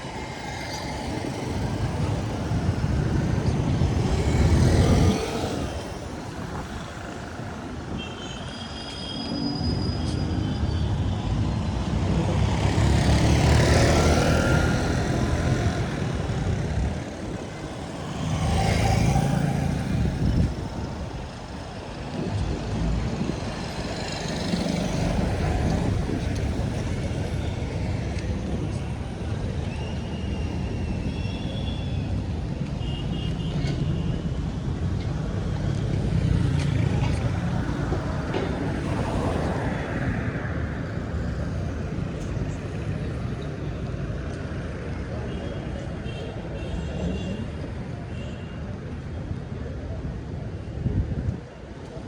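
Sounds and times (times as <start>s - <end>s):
vehicles passing: 0.0s - 52.0s.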